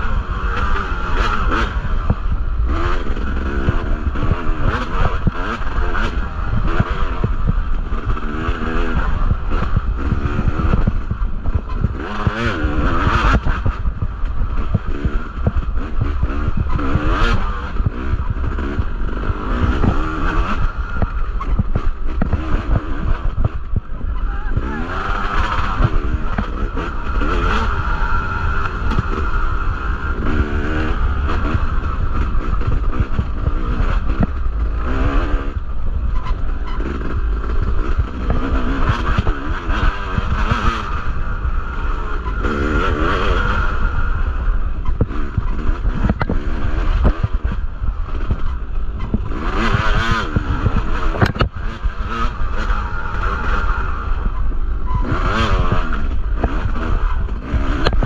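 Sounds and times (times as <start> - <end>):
dirt bike engine revving: 0.0 - 58.0
low rumble: 0.0 - 58.0.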